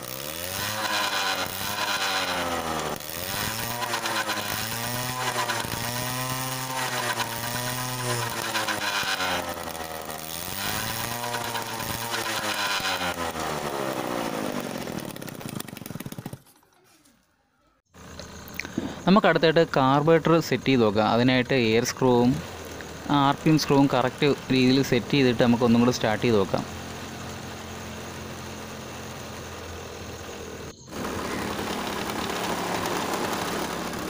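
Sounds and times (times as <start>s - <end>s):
scooter engine revving: 0.0s - 16.8s, 17.9s - 34.0s.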